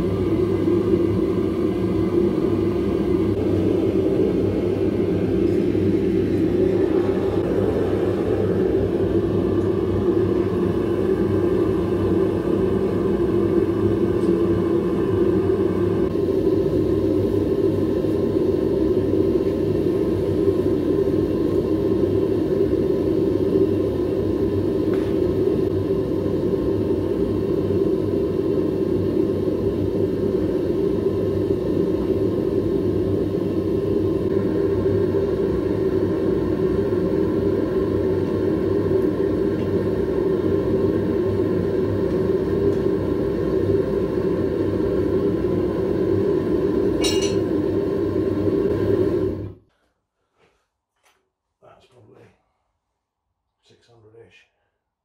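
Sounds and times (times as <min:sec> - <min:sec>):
propane burner flame rushing: 0:00.0 - 0:49.6.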